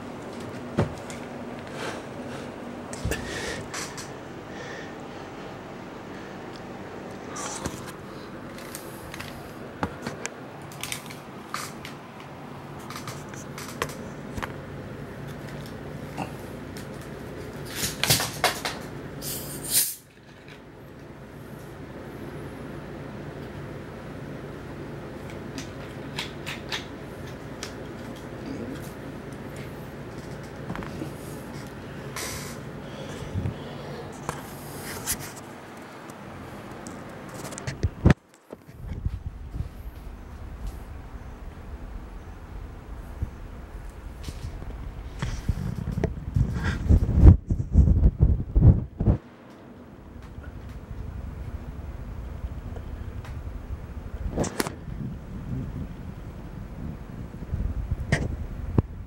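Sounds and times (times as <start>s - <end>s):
room hum: 0.0s - 59.0s.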